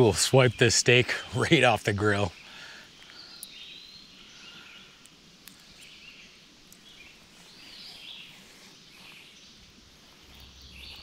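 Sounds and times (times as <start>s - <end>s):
faint outdoor hiss: 0.0s - 11.0s
songbirds singing: 0.0s - 11.0s.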